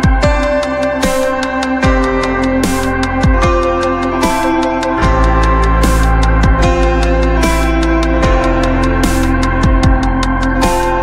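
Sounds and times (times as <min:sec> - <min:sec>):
electronic music with ticking beat: 0:00.0 - 0:11.0
sliding bass notes: 0:00.0 - 0:11.0.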